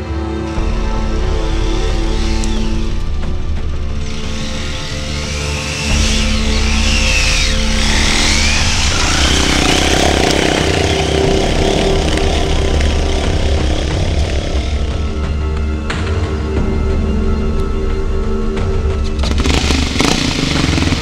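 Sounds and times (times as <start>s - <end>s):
background music: 0.0s - 21.0s
motorcycle engine revving: 0.5s - 16.1s, 19.0s - 21.0s.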